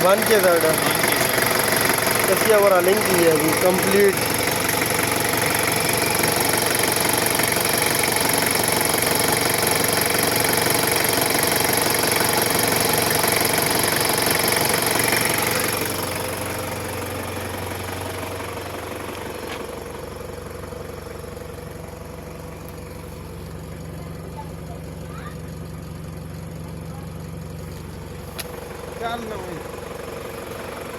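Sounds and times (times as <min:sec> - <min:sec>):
diesel engine clattering: 0:00.0 - 0:30.9.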